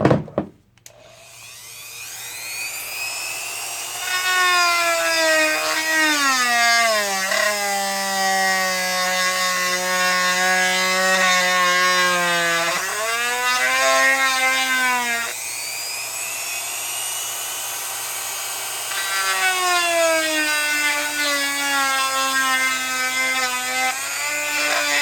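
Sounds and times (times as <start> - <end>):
power tool drilling wood: 0.9 - 25.0.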